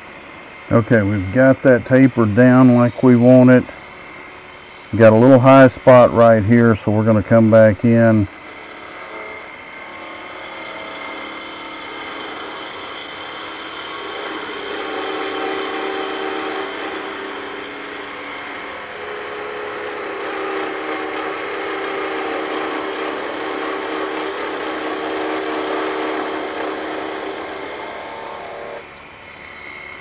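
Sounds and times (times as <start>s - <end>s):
lathe tool cutting wood: 0.0s - 30.0s
wood lathe hum: 0.0s - 30.0s.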